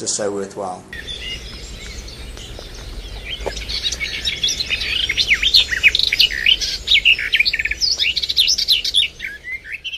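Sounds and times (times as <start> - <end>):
small birds chirping: 0.9 - 9.9.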